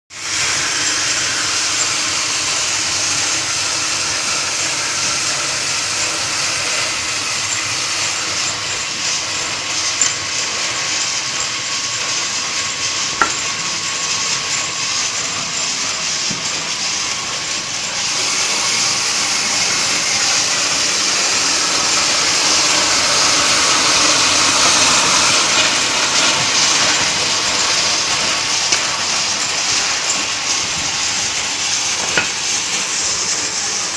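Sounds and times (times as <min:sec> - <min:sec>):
cutting machine hissing: 0:00.1 - 0:33.9.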